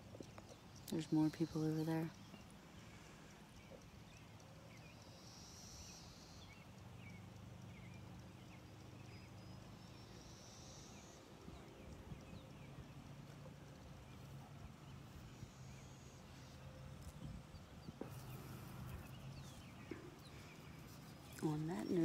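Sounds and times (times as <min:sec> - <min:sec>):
distant bird chirps: 0:00.0 - 0:22.0
low steady hum: 0:00.0 - 0:22.0.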